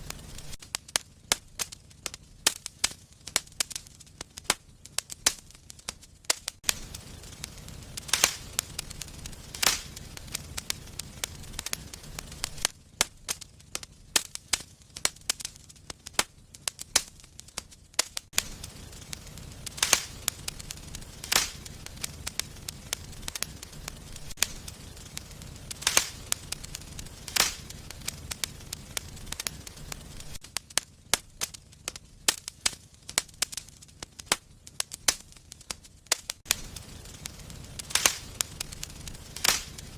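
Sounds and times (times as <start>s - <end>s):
low rumble of flames: 0.0s - 39.9s
sharp pops from burning logs: 0.0s - 39.9s
wood fire crackling: 0.0s - 39.9s.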